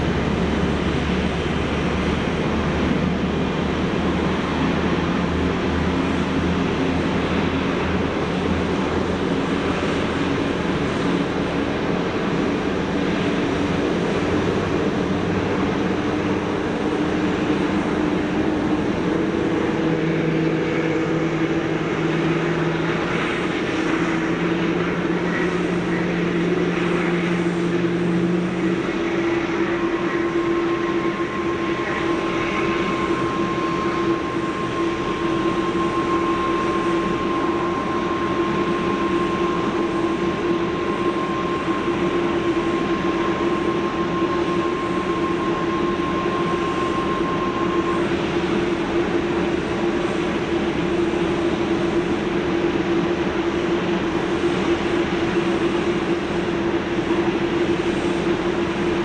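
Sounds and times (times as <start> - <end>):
jet engine whine and hum: 0.0 - 59.0.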